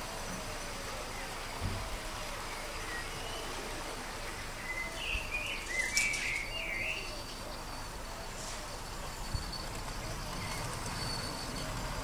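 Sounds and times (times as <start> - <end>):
outdoor background hiss: 0.0 - 12.0
songbird chirping and warbling: 0.5 - 12.0.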